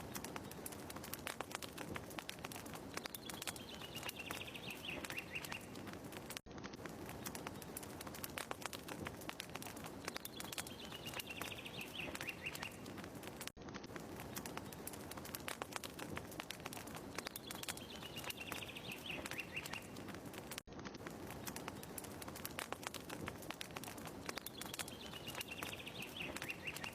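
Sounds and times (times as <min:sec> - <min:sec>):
fire crackling: 0:00.0 - 0:26.9.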